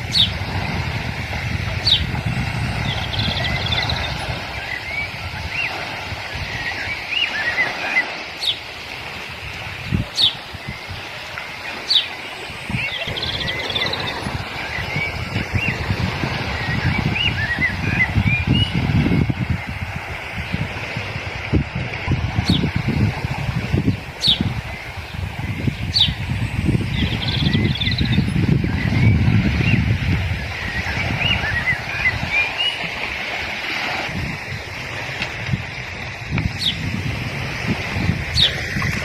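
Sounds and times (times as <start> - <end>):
birds calling: 0.0 - 0.9, 1.6 - 20.7, 22.3 - 22.9, 23.7 - 39.0.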